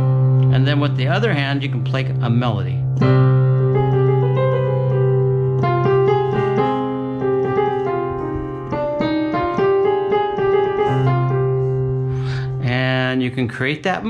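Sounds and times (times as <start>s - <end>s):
digital piano slow melody: 0.0s - 14.0s.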